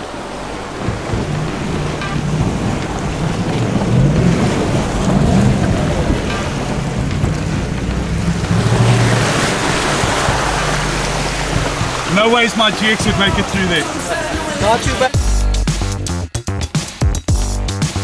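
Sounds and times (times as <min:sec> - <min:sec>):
engine working under load: 0:00.0 - 0:15.2
water rushing and splashing: 0:00.0 - 0:16.0.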